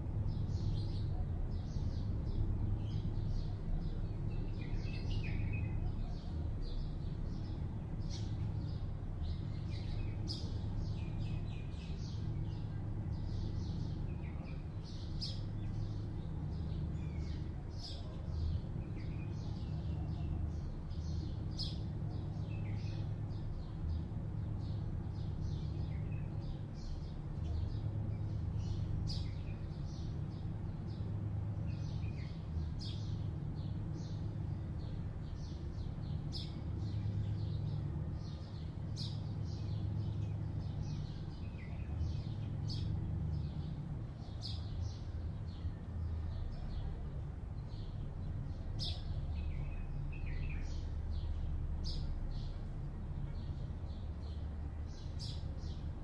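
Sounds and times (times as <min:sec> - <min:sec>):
distant city traffic hum: 0:00.0 - 0:56.0.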